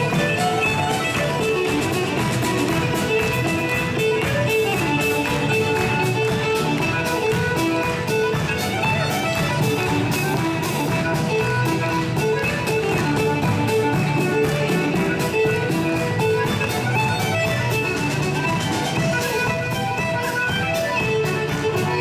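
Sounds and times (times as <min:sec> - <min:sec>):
live band playing dance tune: 0:00.0 - 0:22.0.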